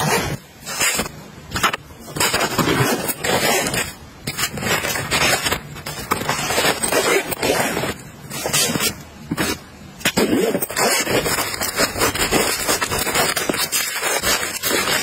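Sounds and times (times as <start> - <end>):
fabric rustling: 0.0 - 15.0
zippers being pulled: 0.0 - 15.0.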